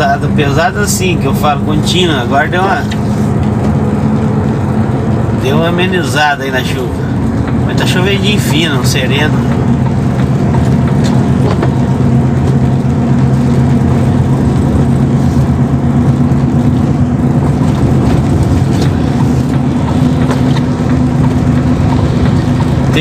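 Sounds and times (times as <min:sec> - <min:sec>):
truck engine humming: 0:00.0 - 0:23.0.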